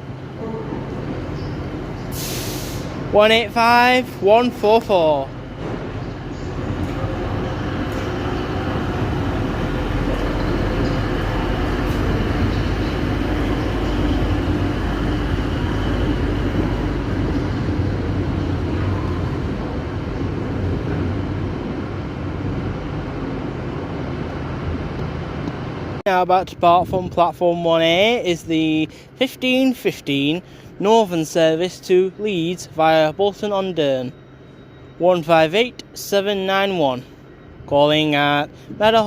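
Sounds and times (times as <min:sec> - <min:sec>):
diesel train engines droning: 0:00.0 - 0:39.0.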